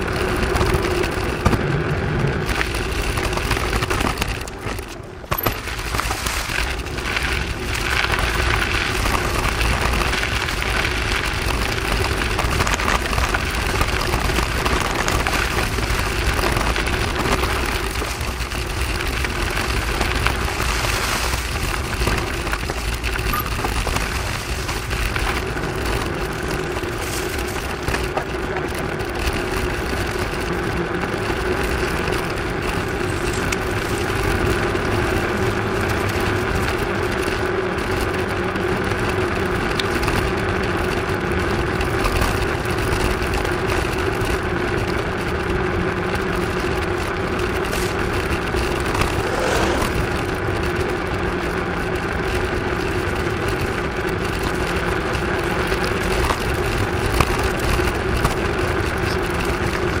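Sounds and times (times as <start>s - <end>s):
bicycle tyres rolling on pavement: 0.0s - 60.0s
road noise: 0.0s - 60.0s.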